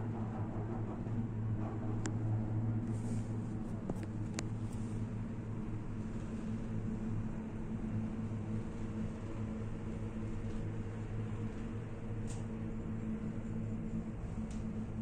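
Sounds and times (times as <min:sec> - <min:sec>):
gondola cabin hum and rush: 0:00.0 - 0:15.0.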